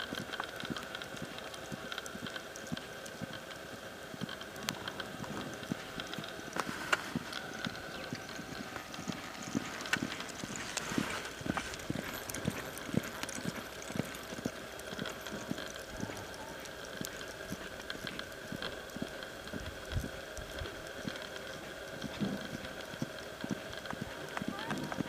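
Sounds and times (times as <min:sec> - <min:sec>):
faint steady hum: 0:00.0 - 0:25.0
hooves thudding on dirt: 0:00.0 - 0:25.0.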